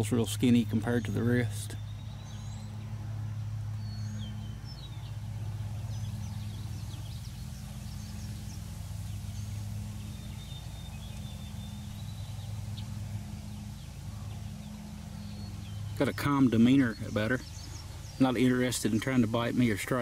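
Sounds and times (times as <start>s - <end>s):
birds chirping and whistling: 0.0s - 20.0s
steady low motor hum: 0.0s - 20.0s.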